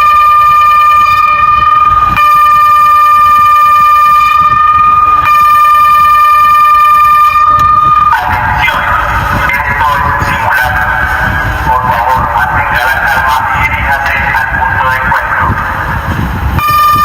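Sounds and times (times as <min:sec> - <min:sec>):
electronic siren steady tone: 0:00.0 - 0:17.0.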